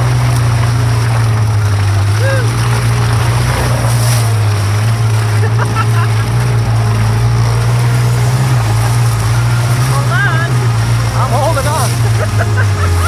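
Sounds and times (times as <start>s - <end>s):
off-road vehicle engine droning: 0.0s - 13.0s.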